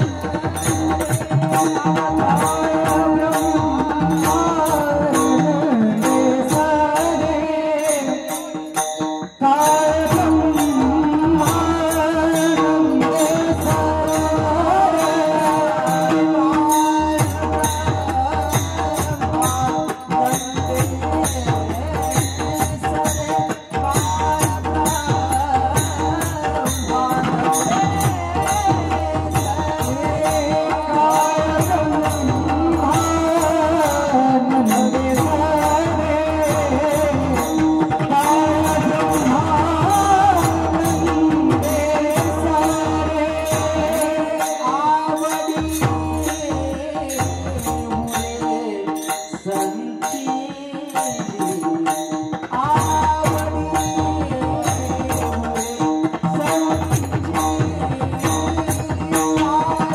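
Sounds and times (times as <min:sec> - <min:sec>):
percussion strikes: 0:00.0 - 0:59.9
person singing: 0:00.0 - 0:59.9.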